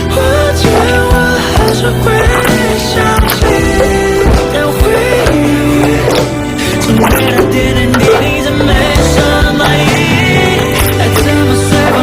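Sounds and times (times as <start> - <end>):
pop song with steady beat: 0.0 - 12.0.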